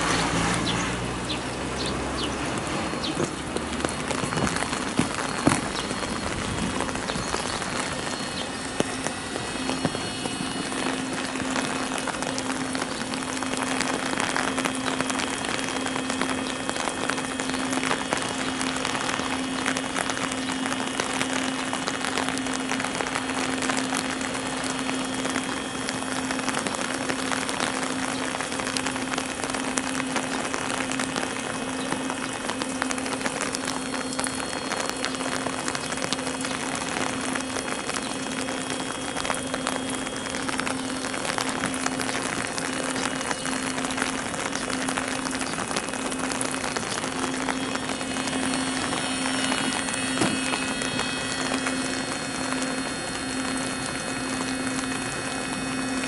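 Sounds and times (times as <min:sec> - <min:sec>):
low hum: 0:00.0 - 0:56.0
steady rain falling: 0:00.0 - 0:56.0.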